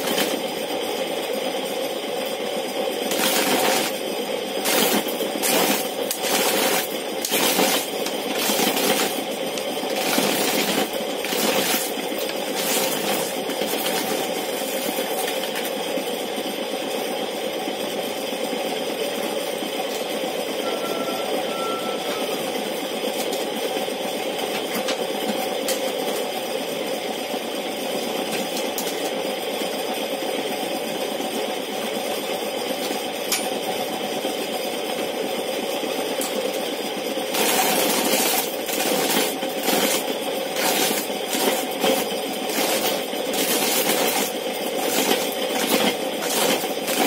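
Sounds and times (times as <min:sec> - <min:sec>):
corn sheller mechanical hum: 0:00.0 - 0:47.0.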